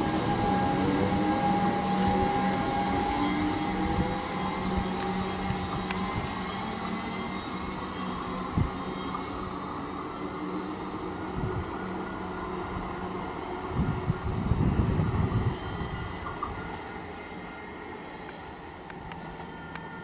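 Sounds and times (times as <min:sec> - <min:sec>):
electric train humming: 0:00.0 - 0:20.0
low train rumbling: 0:00.0 - 0:20.0.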